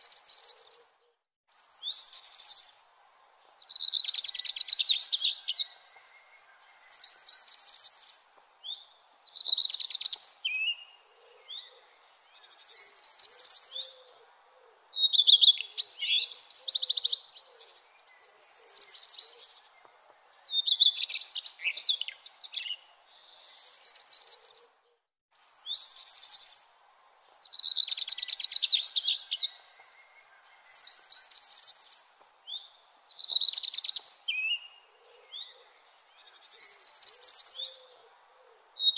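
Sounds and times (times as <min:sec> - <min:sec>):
faint background noise: 0:00.0 - 0:38.9
songbird singing: 0:00.0 - 0:38.9.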